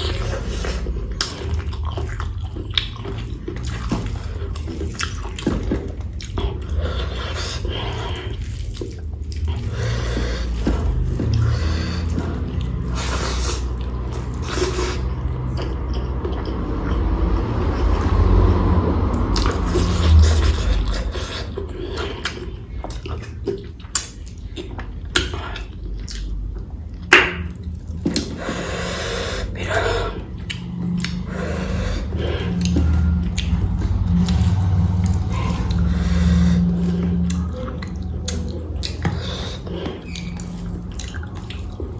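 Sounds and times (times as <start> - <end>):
steady low hum: 0.0 - 41.9
wet chewing and mouth noises: 0.0 - 41.9.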